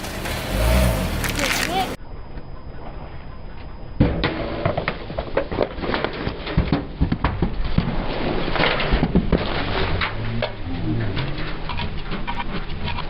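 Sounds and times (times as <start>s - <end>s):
car tyre crushing crunchy objects: 0.0s - 2.0s, 4.1s - 13.0s.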